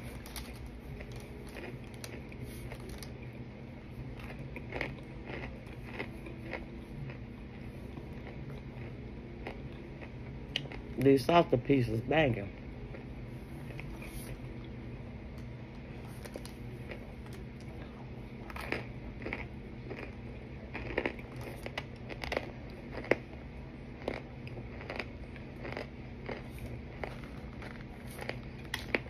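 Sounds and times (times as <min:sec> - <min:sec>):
dry crunches of chewing: 0:00.0 - 0:11.2, 0:12.9 - 0:14.7, 0:16.0 - 0:29.0.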